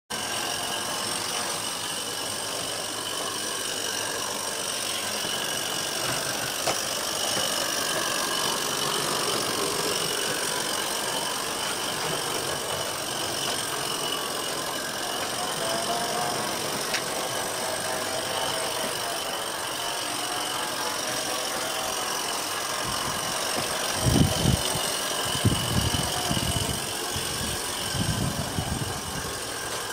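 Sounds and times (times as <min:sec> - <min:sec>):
model steam locomotive running: 0:00.1 - 0:29.9.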